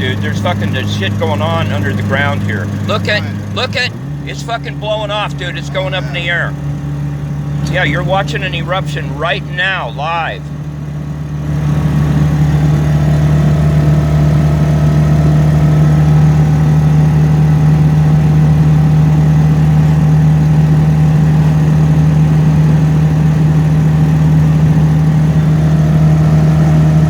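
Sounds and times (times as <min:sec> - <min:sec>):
car engine droning: 0:00.0 - 0:27.0.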